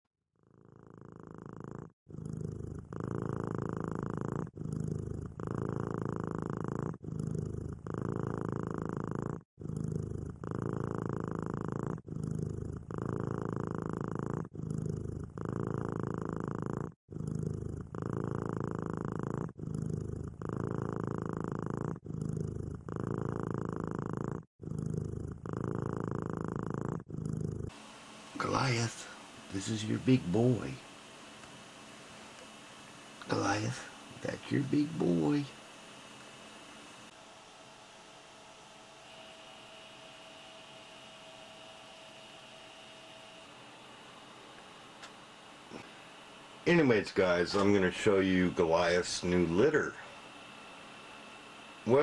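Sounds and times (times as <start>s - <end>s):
cat purring: 0.4s - 37.2s, 38.4s - 46.0s, 46.6s - 52.0s.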